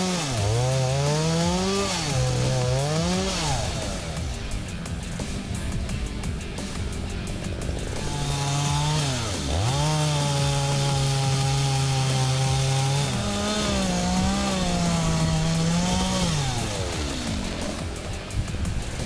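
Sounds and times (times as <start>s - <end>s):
chainsaw engine cutting: 0.0s - 19.0s.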